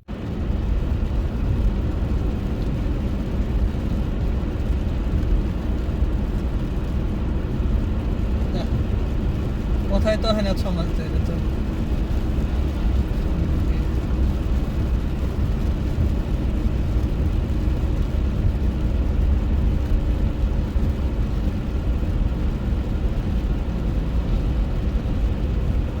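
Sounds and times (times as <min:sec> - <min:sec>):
car driving rumble: 0:00.0 - 0:26.0.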